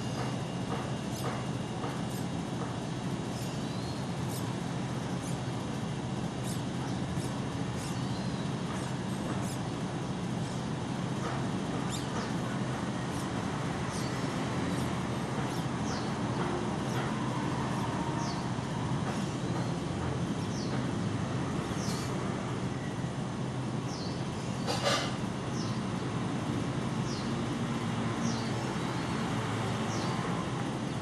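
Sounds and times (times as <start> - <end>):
nestling birds cheeping: 0.0 - 31.0
steady low hum: 0.0 - 31.0.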